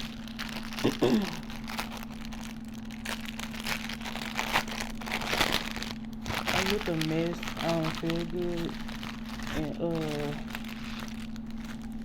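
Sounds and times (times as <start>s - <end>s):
plastic packaging crinkling: 0.0s - 12.0s
steady low hum: 0.0s - 12.0s.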